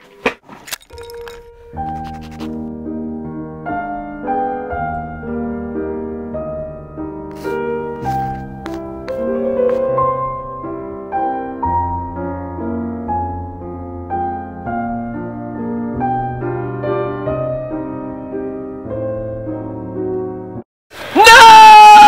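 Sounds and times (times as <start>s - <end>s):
gentle piano music: 1.2s - 20.6s.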